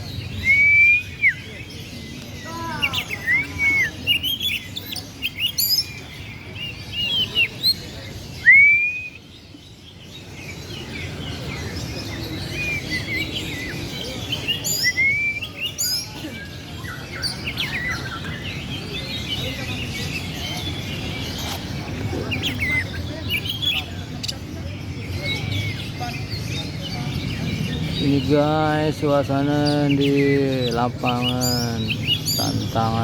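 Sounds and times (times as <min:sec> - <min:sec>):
low background murmur: 0:00.0 - 0:33.0
songbirds singing: 0:00.0 - 0:33.0.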